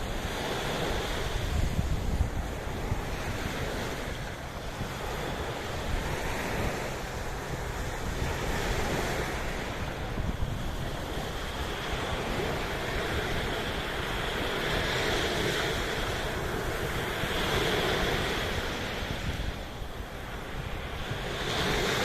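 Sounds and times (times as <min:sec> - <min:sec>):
sea waves washing in: 0:00.0 - 0:22.0
wind buffeting microphone: 0:00.0 - 0:22.0.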